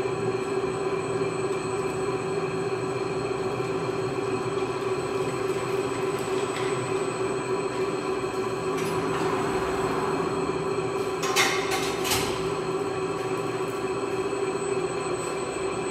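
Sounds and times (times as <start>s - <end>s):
meat slicer humming: 0.0s - 15.9s.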